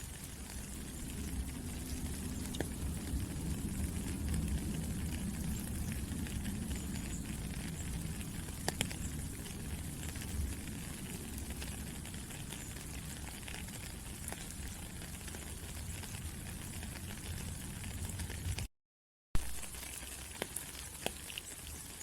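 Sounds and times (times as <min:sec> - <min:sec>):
low rumble: 0:00.0 - 0:18.7
steady rain hiss: 0:00.0 - 0:18.7, 0:19.4 - 0:22.0.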